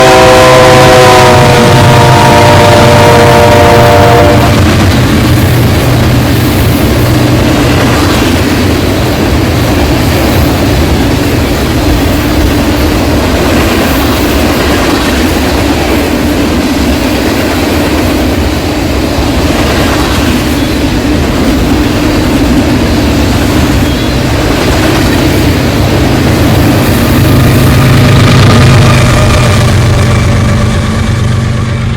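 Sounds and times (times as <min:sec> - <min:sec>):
train engine drone: 0:00.0 - 0:31.9.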